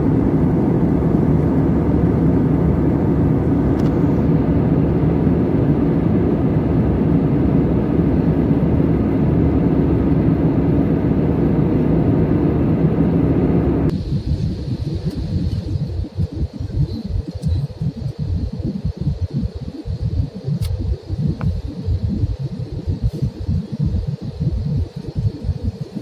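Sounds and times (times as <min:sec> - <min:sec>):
jet engine cabin rumble: 0:00.0 - 0:26.0.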